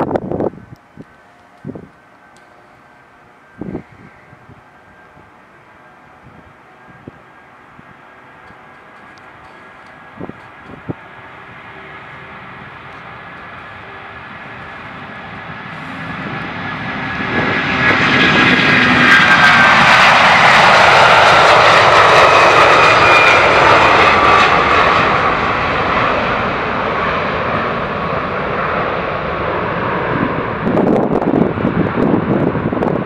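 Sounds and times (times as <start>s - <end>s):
wind buffeting microphone: 0.0s - 2.1s, 3.5s - 5.4s, 6.1s - 26.6s, 27.4s - 33.0s
jet engines at takeoff: 0.0s - 33.0s.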